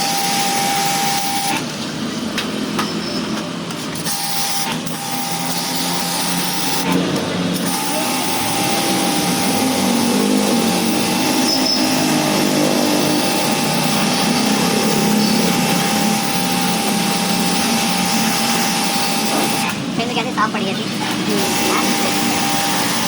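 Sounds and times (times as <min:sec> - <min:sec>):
pressure washer hissing: 0:00.0 - 0:23.0
thin steady whine: 0:00.0 - 0:23.0.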